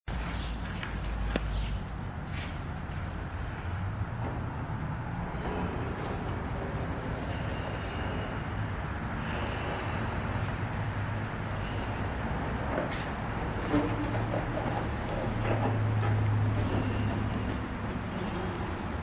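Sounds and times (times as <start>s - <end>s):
steady low rumble: 0.1s - 19.0s.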